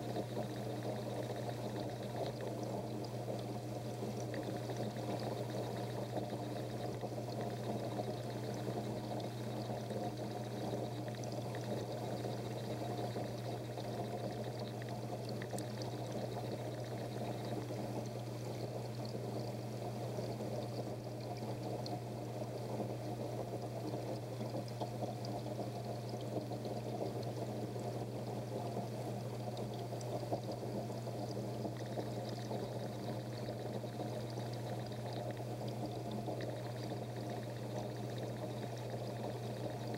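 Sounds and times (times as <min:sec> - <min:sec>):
pump humming: 0:00.0 - 0:39.9
water pouring into aquarium: 0:00.0 - 0:39.9.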